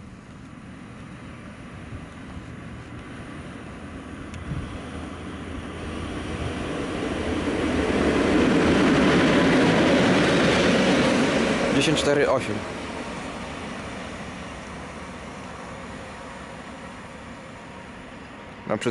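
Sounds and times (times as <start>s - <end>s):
train running noise: 0.0s - 18.9s.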